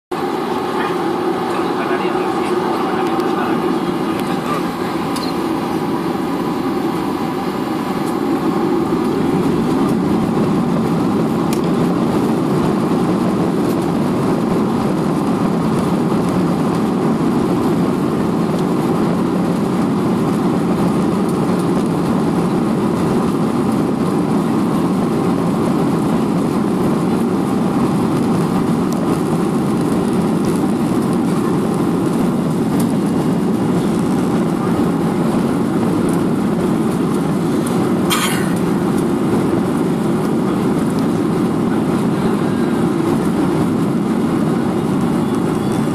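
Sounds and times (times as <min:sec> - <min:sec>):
jet engines rumbling hum: 0:00.1 - 0:45.9.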